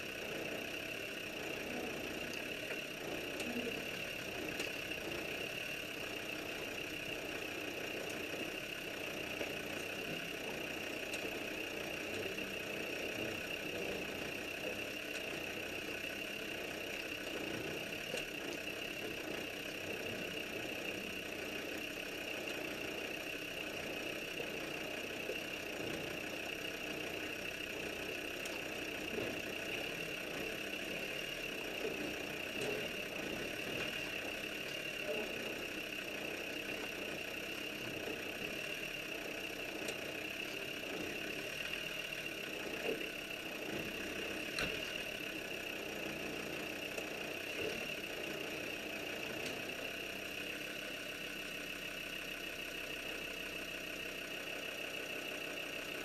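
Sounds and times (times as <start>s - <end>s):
vehicle engine running at low revs: 0.0s - 56.0s.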